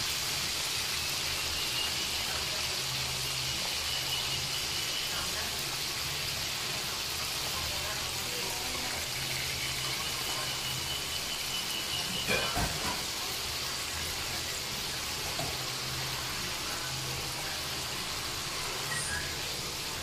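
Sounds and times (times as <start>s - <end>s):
oil sizzling in frying pan: 0.0s - 20.0s.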